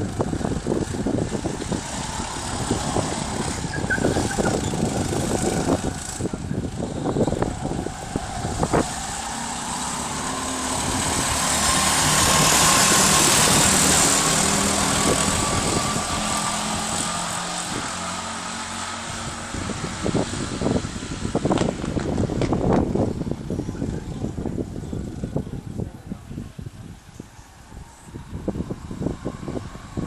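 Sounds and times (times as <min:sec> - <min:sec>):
go-kart engine passing by: 0:00.0 - 0:30.0.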